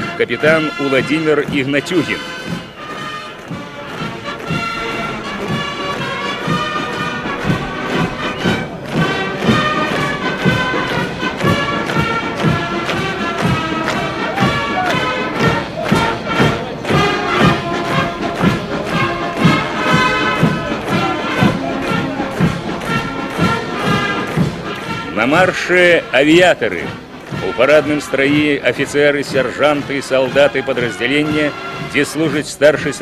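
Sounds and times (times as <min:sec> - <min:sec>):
thudding drum beat: 0:00.0 - 0:32.4
brass band playing a march: 0:00.0 - 0:33.0.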